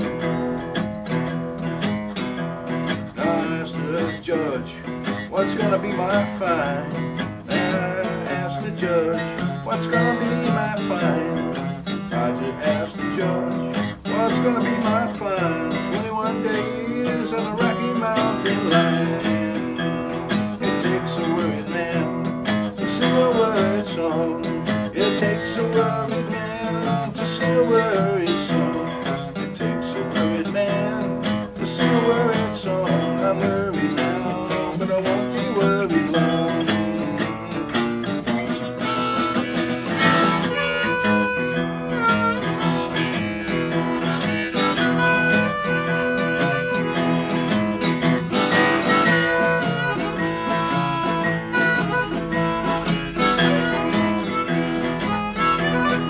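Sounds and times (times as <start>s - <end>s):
acoustic guitar accompaniment: 0.0s - 56.0s
harmonica melody: 0.0s - 56.0s.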